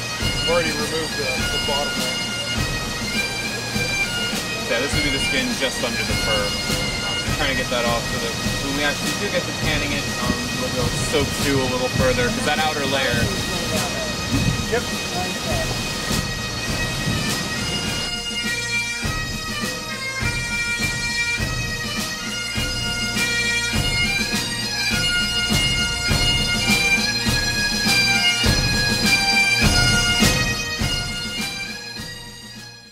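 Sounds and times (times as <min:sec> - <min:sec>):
bagpipe drone: 0:00.0 - 0:32.9
bagpipe melody: 0:00.0 - 0:32.9.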